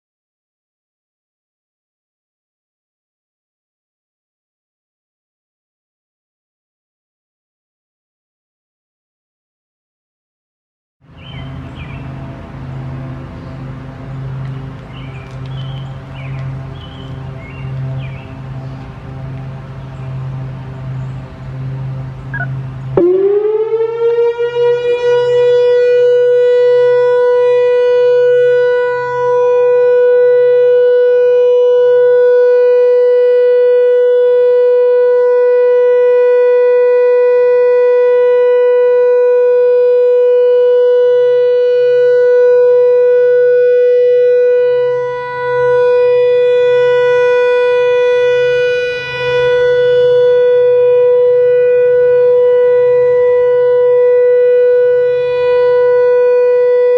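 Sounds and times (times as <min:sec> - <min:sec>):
electronic warning siren: 0:11.0 - 0:56.9.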